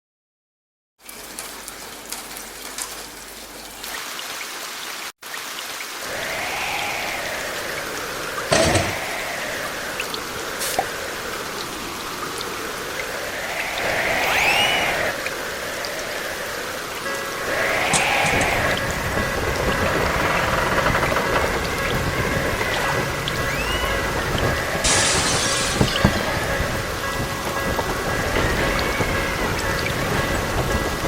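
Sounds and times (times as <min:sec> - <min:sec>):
rain hiss: 0:01.0 - 0:31.0
wind howling: 0:06.0 - 0:31.0.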